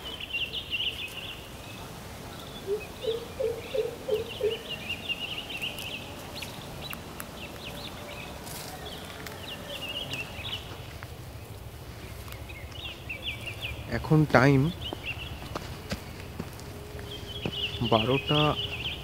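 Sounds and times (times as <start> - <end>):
birds chirping: 0.0 - 19.0
bird repeating low notes: 1.7 - 19.0.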